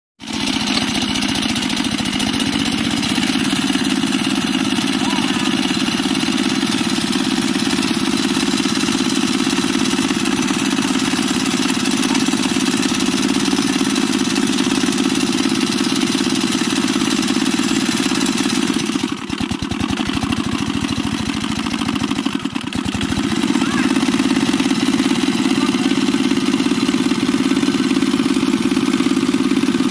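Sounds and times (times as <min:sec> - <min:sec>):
single-cylinder engine running: 0:00.2 - 0:29.9.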